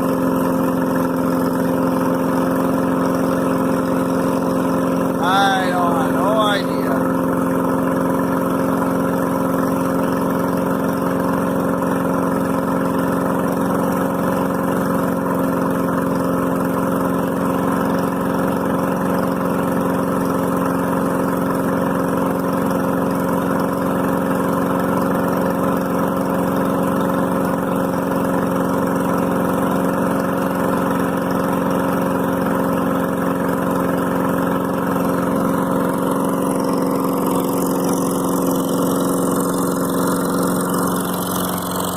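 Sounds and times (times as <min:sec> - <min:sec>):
engine idling: 0:00.0 - 0:41.9.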